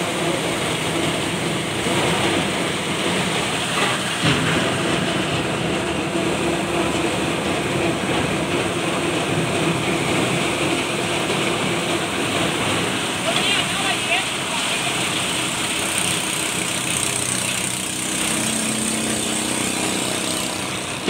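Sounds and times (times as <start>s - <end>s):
ice rushing and rattling through pipe: 0.0s - 21.0s
machine hum: 0.0s - 21.0s.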